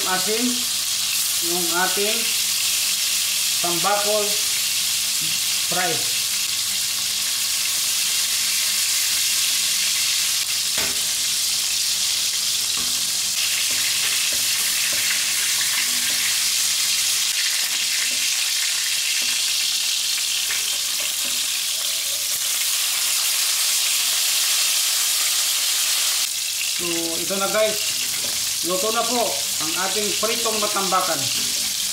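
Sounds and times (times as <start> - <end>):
fish deep-frying in oil: 0.0 - 31.9.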